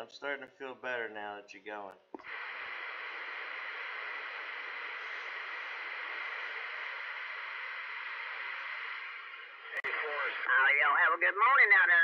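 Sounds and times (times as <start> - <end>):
radio static hiss: 2.1 - 12.0.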